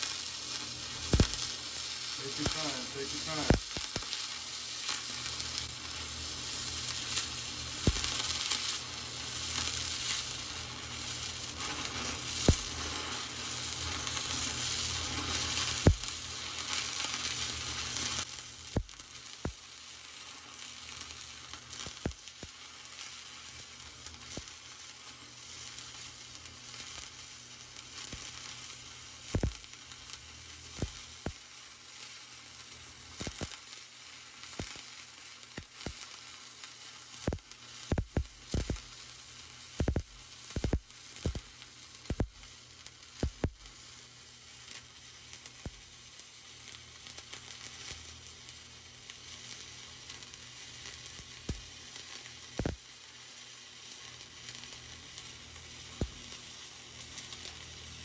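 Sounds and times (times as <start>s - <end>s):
welding arc crackling: 0.0s - 58.0s.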